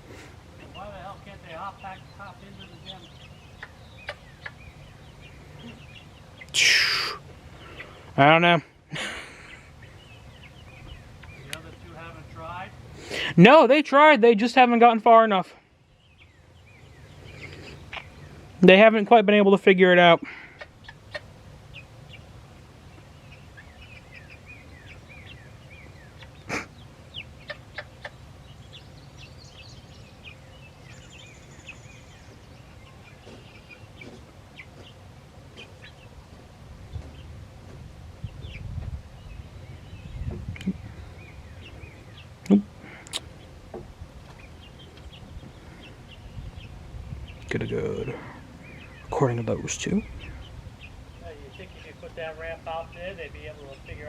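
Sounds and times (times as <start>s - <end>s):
chicks peeping: 0.0s - 13.4s, 15.9s - 18.9s, 20.2s - 54.0s.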